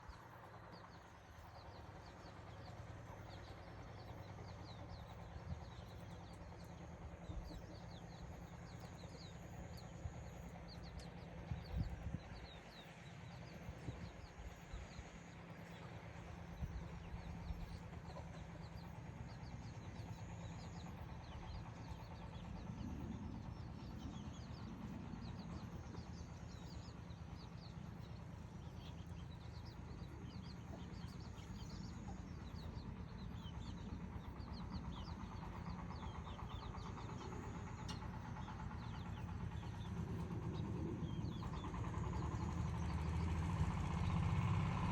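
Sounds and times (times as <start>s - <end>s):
small birds chirping: 0.1s - 44.9s.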